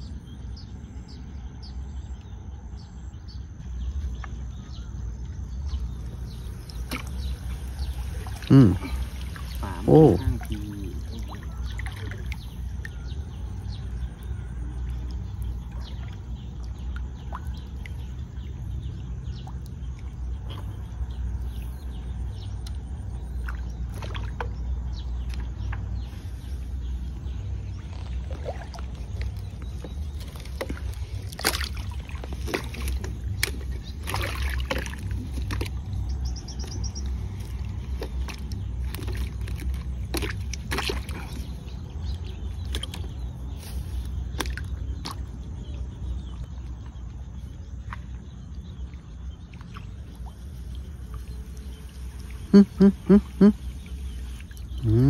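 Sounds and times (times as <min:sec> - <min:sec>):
low rumble of water: 0:00.0 - 0:55.0
water splashes: 0:05.2 - 0:55.0.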